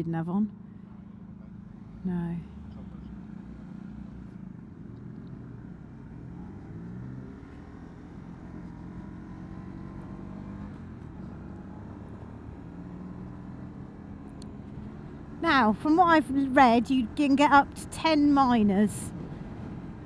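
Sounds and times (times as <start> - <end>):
wind and road noise: 0.0 - 20.0.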